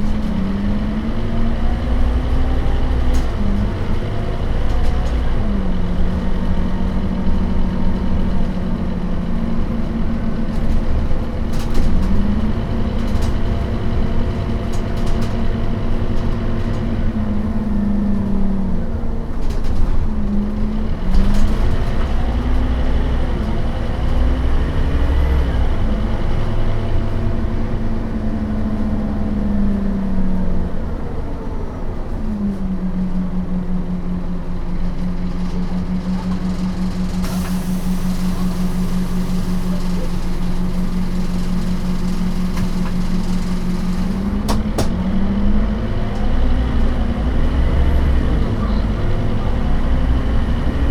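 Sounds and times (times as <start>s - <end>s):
bus engine and gearbox: 0.0s - 50.9s.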